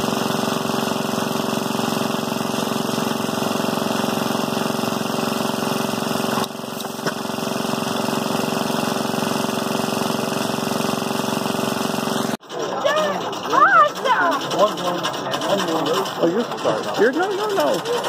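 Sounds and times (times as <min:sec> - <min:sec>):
stationary engine running: 0:00.0 - 0:18.0.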